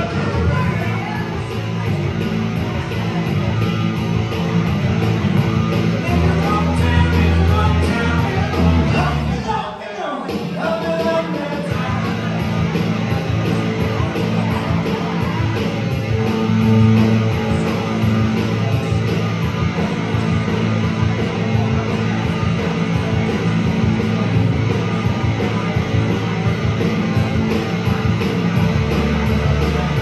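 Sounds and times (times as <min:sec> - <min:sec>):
live rock band playing: 0:00.0 - 0:09.5, 0:10.3 - 0:30.0
amplified electric guitar: 0:00.0 - 0:09.6, 0:10.4 - 0:30.0.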